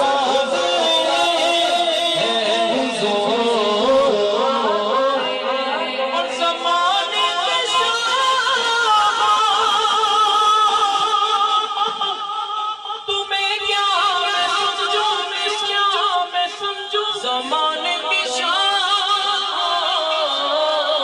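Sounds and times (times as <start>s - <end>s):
man singing: 0.0s - 21.0s.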